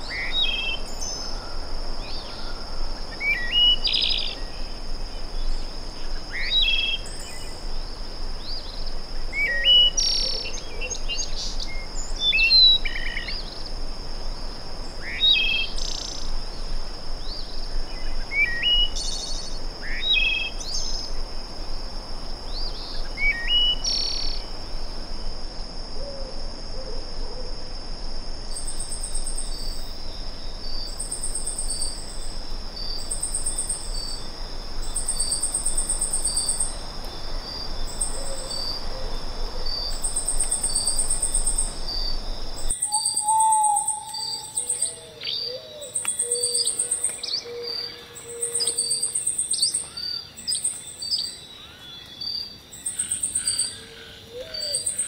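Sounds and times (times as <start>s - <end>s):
cricket trilling in bursts: 0.0s - 55.0s
high insect drone: 0.0s - 55.0s.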